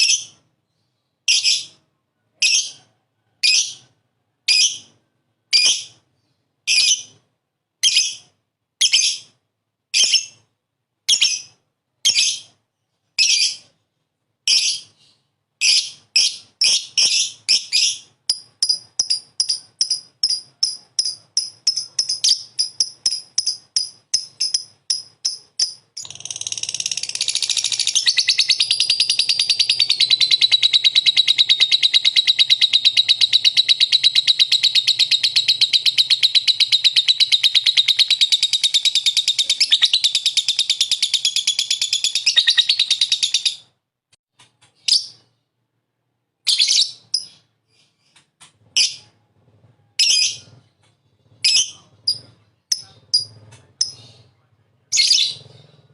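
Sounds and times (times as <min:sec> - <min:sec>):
lovebird chirping and trilling: 0:00.0 - 0:10.5, 0:11.1 - 0:12.6, 0:13.2 - 0:13.8, 0:14.4 - 0:43.7, 0:44.8 - 0:45.3, 0:46.4 - 0:49.2, 0:50.0 - 0:54.3, 0:54.9 - 0:55.9.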